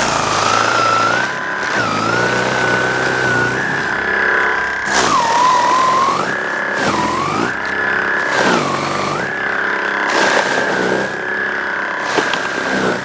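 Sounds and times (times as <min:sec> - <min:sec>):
snow blower motor whine: 0:00.0 - 0:13.0.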